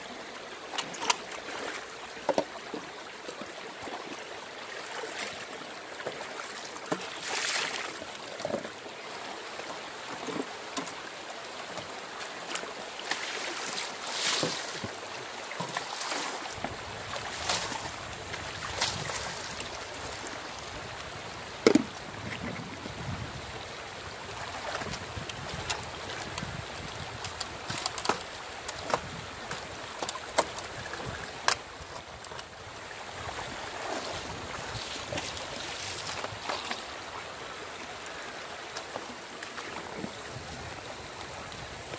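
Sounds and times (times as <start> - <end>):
stream water running: 0.0 - 41.9
person wading through water: 0.7 - 41.9.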